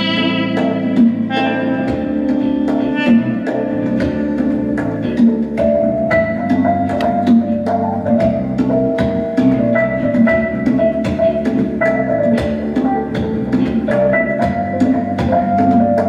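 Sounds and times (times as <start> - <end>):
congas beating: 0.0 - 16.0
keyboard melody: 0.0 - 16.0.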